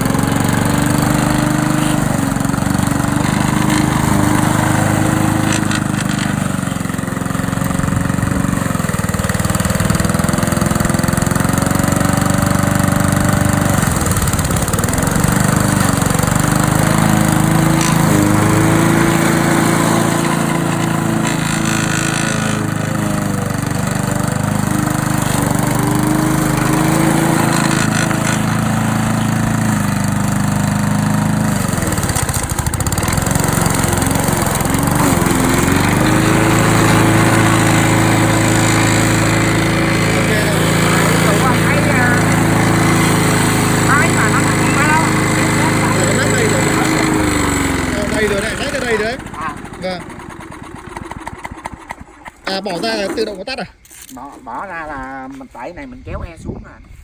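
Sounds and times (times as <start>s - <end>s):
lawn mower engine running: 0.0s - 55.8s.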